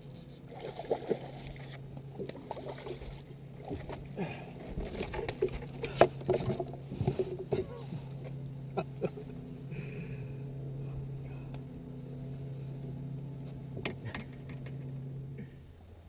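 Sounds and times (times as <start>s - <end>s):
electric trolling motor hum: 0.0s - 16.0s.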